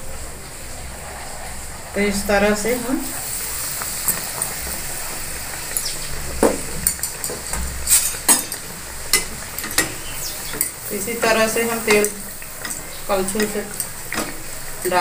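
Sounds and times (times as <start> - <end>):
bread deep-frying in oil: 0.0 - 15.0
oil popping: 2.6 - 15.0.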